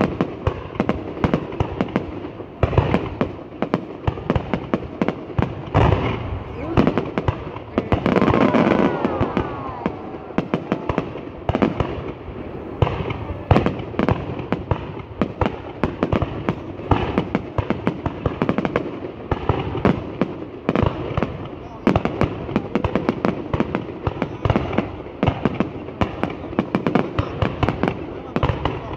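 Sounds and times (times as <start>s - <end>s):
fireworks bangs and crackles: 0.0s - 28.9s.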